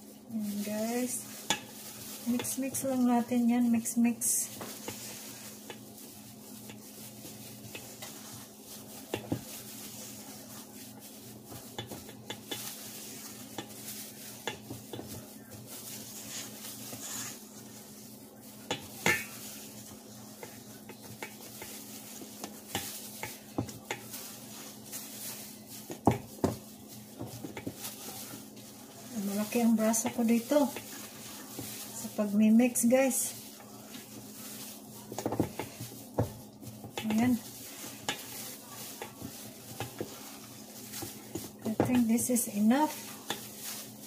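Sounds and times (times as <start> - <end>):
spatula scraping dough in bowl: 1.0 - 18.0, 18.6 - 44.0.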